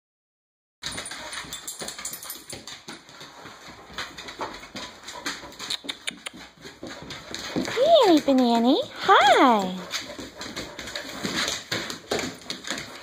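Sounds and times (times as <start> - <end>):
dog claws scrabbling on tiles: 0.8 - 13.0.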